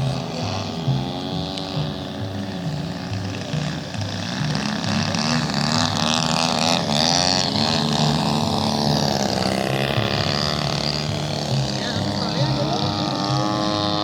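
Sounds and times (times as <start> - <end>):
model airplane engine buzzing: 0.0 - 14.0.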